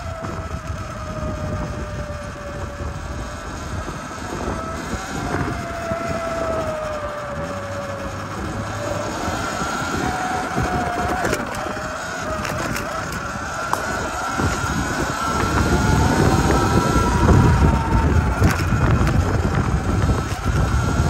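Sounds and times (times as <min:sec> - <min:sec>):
electric motor whining: 0:00.0 - 0:21.0
wind buffeting microphone: 0:00.0 - 0:21.0.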